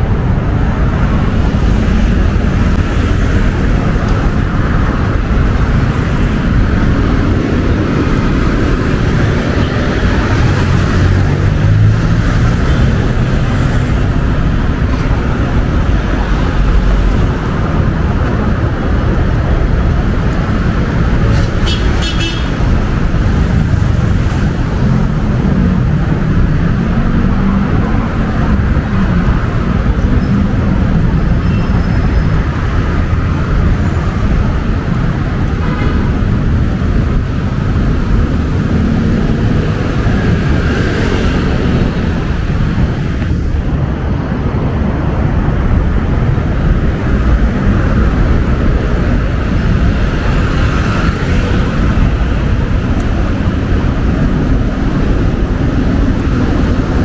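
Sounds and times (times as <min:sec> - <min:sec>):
heavy road traffic: 0:00.0 - 0:57.0.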